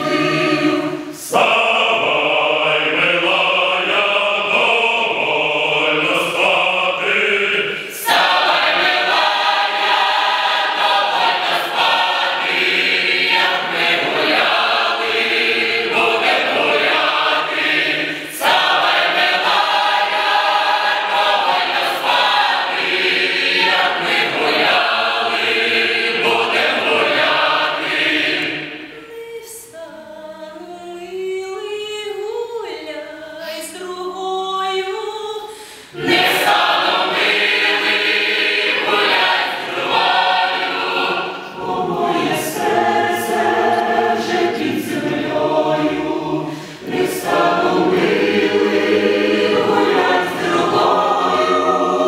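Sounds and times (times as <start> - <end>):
mixed choir singing folk song: 0.0 - 52.0.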